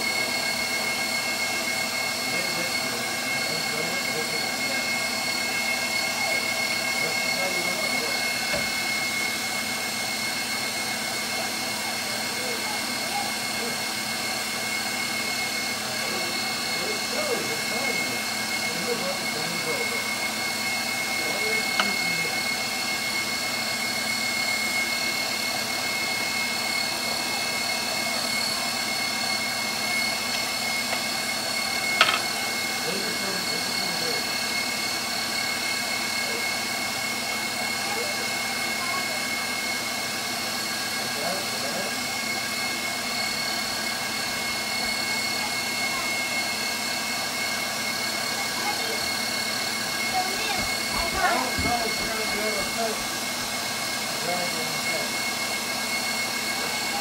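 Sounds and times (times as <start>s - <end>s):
stand mixer running: 0.0s - 57.0s.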